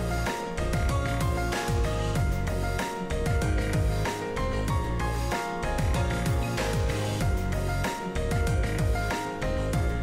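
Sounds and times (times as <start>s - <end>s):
melodic music with beat: 0.0s - 10.0s.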